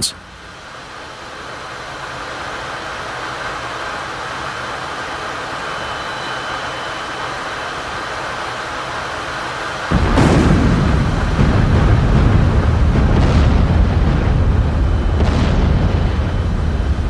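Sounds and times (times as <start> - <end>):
jet aircraft roar: 0.0 - 17.0.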